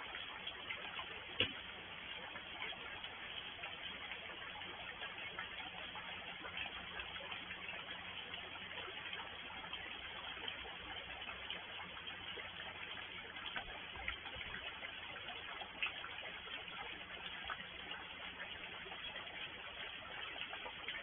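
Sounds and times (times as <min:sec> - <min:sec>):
raindrops tapping: 0:00.2 - 0:21.0.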